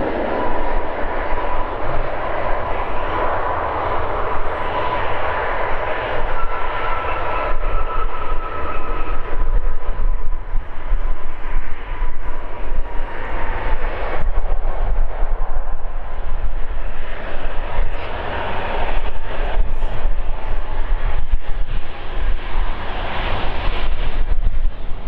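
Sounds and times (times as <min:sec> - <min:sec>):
jet engines whining and rumbling: 0:00.0 - 0:25.0.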